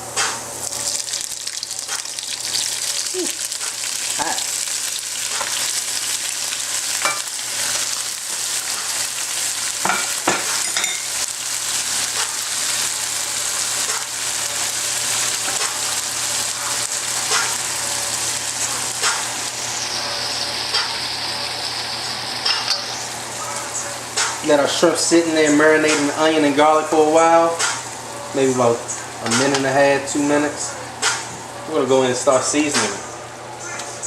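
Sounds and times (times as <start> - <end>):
shrimp sizzling in oil: 0.5 - 28.1.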